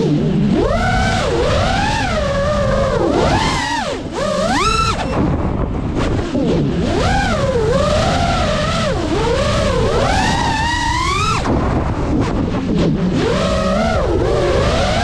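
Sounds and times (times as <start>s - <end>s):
drone motors whining: 0.0s - 15.0s
low wind rumble: 0.0s - 15.0s.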